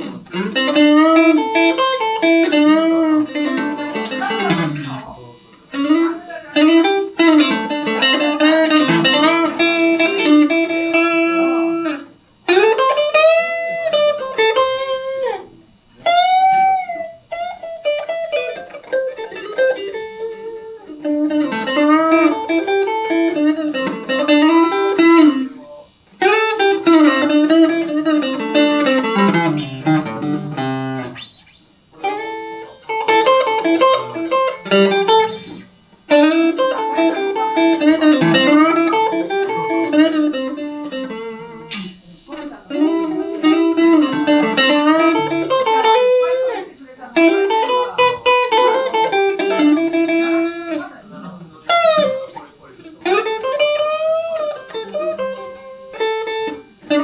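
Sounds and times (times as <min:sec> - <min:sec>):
electric guitar bluesy lead: 0:00.0 - 0:57.0.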